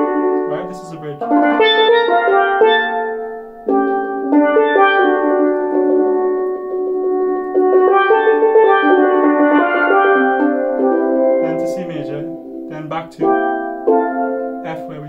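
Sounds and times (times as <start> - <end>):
steelpan chords rolled with sticks: 0.0 - 15.0.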